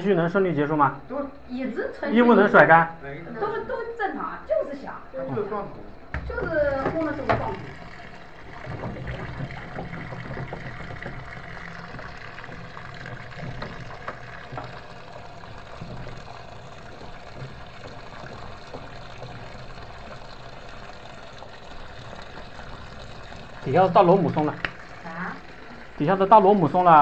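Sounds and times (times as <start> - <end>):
water running into washing machine: 0.0 - 27.0.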